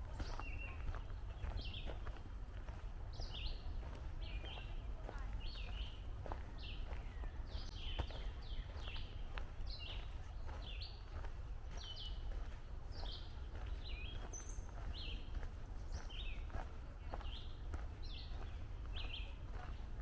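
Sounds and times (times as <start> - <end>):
faint footsteps on trail: 0.0 - 20.0.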